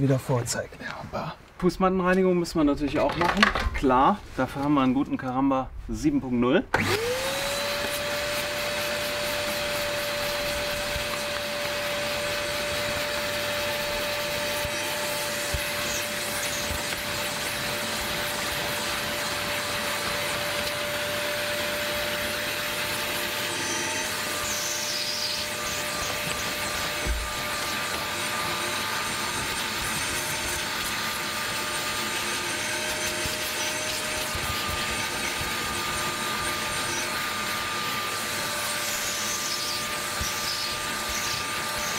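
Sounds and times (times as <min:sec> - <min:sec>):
vacuum motor whine: 0:06.7 - 0:41.9.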